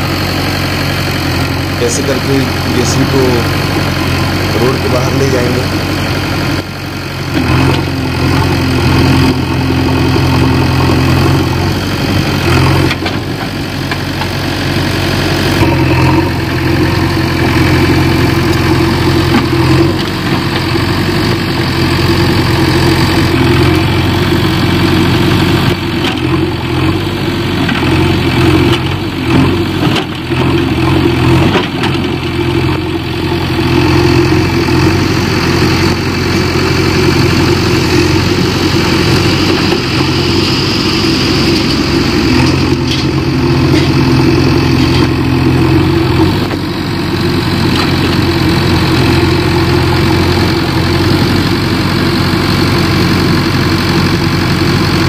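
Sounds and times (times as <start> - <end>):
backhoe diesel engine running: 0.0 - 55.0.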